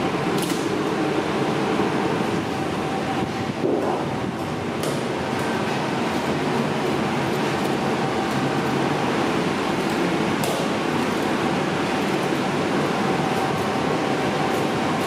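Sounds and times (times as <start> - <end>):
machinery droning hum: 0.0 - 15.0.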